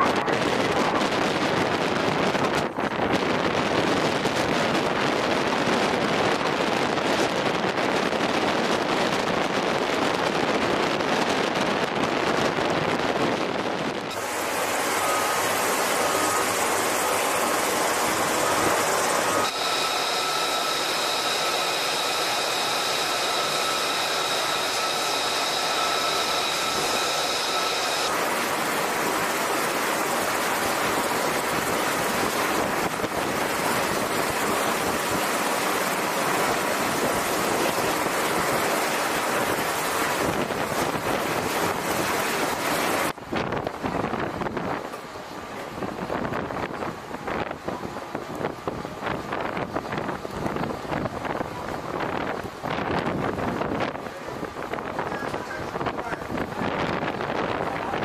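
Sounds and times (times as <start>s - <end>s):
high machinery whine: 0.0s - 58.0s
wind and sea noise: 0.0s - 58.0s.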